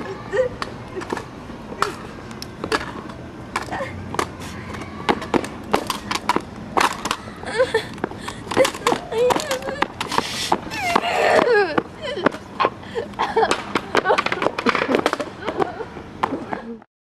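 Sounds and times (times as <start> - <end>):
scooters clattering on asphalt: 0.0 - 16.8.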